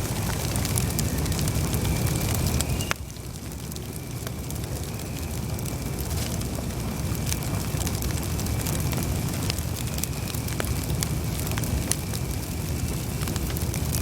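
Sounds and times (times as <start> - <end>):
campfire crackling and popping: 0.0 - 14.0
fire low rumble: 0.0 - 14.0.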